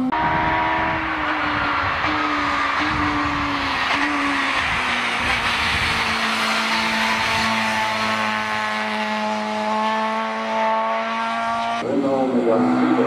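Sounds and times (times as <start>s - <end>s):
race car engine at high revs: 0.0s - 13.0s
car passing close by: 0.2s - 13.0s.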